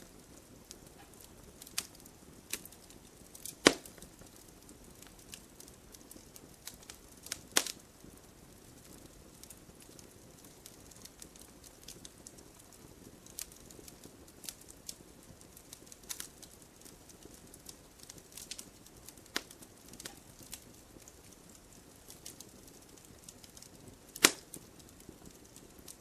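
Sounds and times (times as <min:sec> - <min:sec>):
faint low hiss: 0:00.0 - 0:26.0
wood fire crackling: 0:00.0 - 0:26.0.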